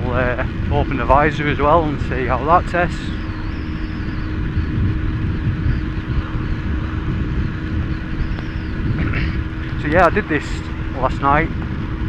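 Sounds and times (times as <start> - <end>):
motorcycle engine rumble: 0.0 - 12.0
steady hum: 0.0 - 12.0
wind buffeting helmet: 0.0 - 12.0.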